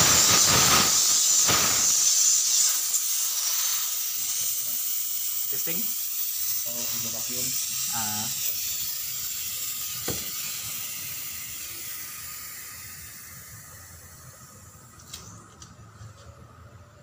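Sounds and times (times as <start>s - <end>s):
pressurised gas hissing: 0.0s - 15.6s.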